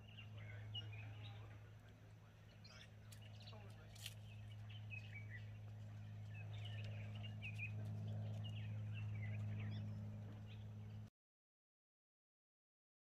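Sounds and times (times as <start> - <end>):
faint birds chirping: 0.0 - 11.1
steady low hum: 0.0 - 11.1.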